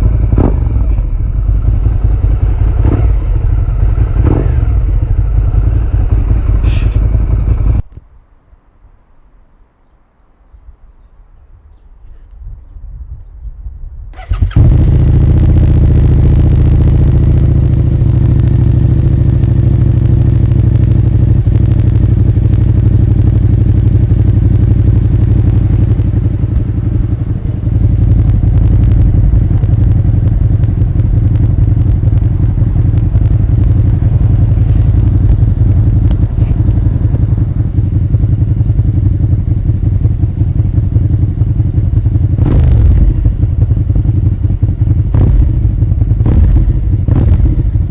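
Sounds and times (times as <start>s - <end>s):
motorcycle engine idling: 0.0s - 7.8s, 14.2s - 47.9s.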